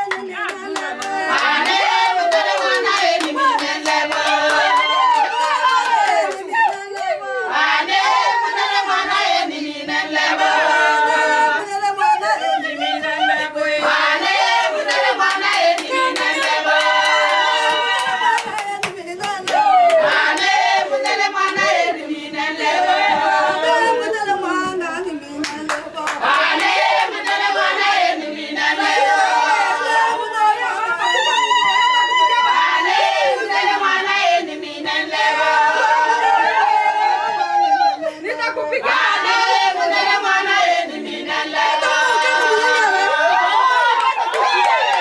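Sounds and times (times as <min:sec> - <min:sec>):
rhythmic hand clapping: 0:00.0 - 0:11.8, 0:13.0 - 0:35.8, 0:38.9 - 0:45.0
women singing together: 0:00.0 - 0:45.0.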